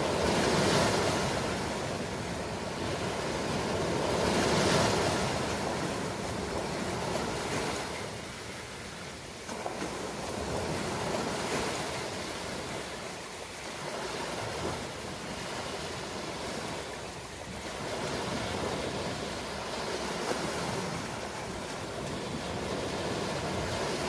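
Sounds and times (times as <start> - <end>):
ocean surf rushing: 0.0 - 24.0.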